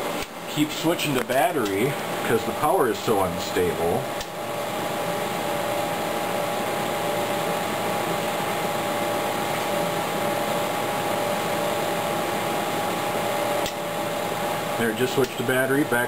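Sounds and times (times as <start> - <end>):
constant electronic whine: 0.0 - 16.0.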